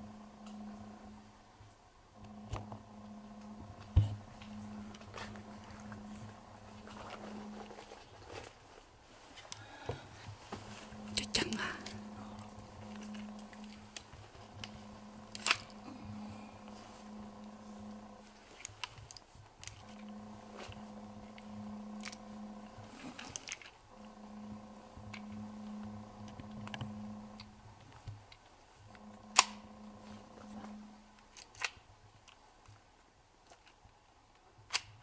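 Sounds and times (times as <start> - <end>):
low hum: 0.0 - 31.6.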